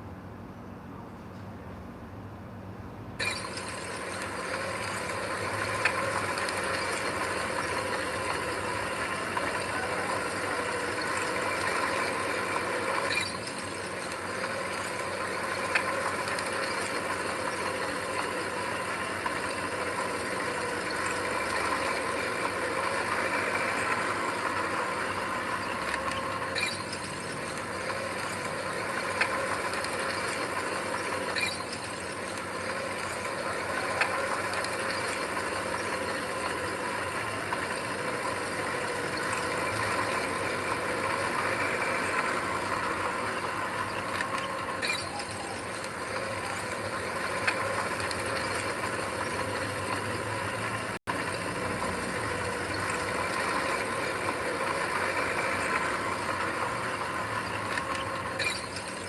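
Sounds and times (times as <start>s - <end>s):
heavy machinery engine whining: 3.1s - 59.0s.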